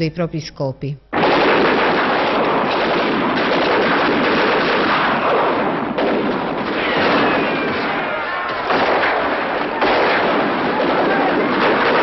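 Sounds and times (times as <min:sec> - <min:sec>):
explosions: 0:01.1 - 0:12.0
heavy gunfire: 0:01.1 - 0:12.0.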